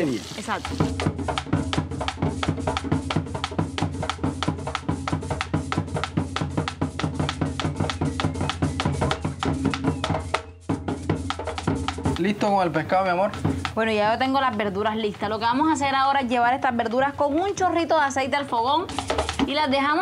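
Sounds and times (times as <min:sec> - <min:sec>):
drum kit beat: 0:00.0 - 0:20.0.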